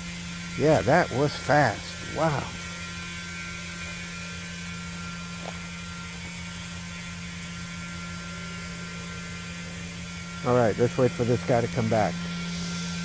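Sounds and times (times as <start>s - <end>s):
vacuum truck pump humming: 0.0s - 13.0s.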